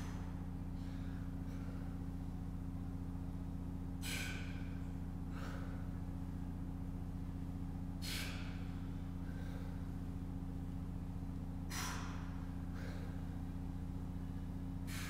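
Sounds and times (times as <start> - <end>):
man breathing with effort: 0.0 - 15.0
steady low hum: 0.0 - 15.0.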